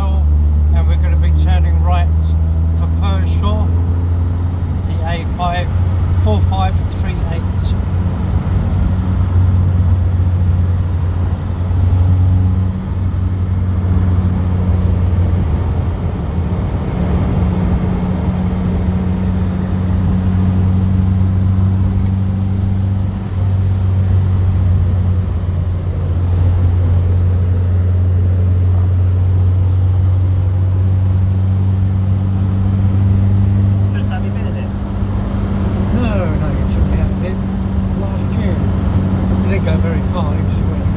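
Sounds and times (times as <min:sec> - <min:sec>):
car engine drone: 0:00.0 - 0:40.9
road noise inside car: 0:00.0 - 0:40.9.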